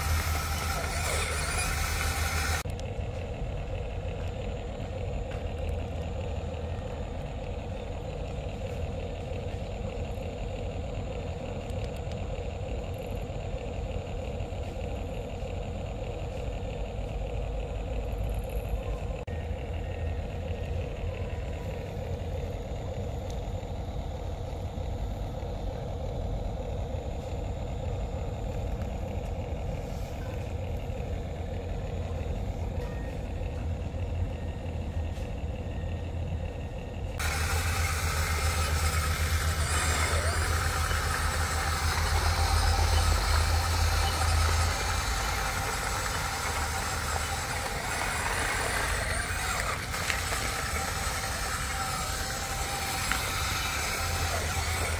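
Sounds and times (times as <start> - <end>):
engine rumbling: 0.0 - 54.9.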